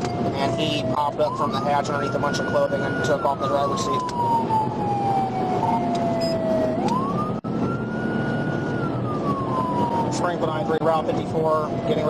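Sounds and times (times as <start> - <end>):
police siren wailing: 0.0 - 12.0
road and engine noise: 0.0 - 12.0.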